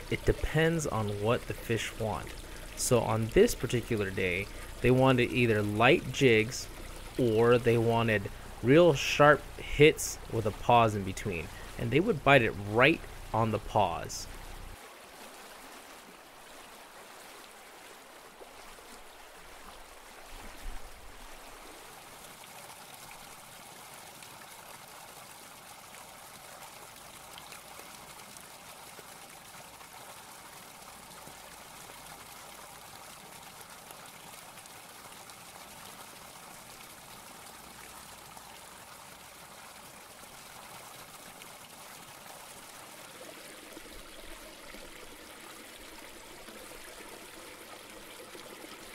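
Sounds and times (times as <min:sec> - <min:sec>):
fountain water splashing: 0:00.0 - 0:48.9.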